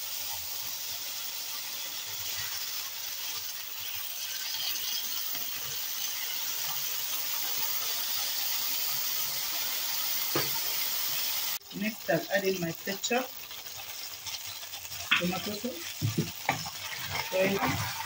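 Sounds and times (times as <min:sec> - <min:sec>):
sauce sizzling in hot oil: 0:00.0 - 0:18.0.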